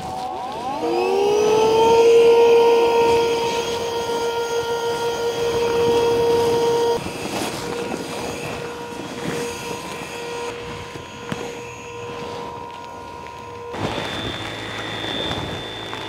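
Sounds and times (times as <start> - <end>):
motor hum: 0.0 - 16.0
rushing noise: 0.0 - 16.0.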